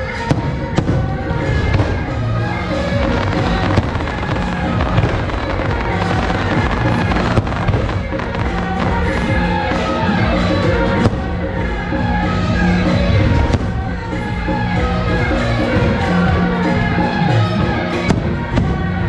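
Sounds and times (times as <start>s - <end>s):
firecracker crackle: 0.0s - 19.0s
loud music: 0.0s - 19.0s.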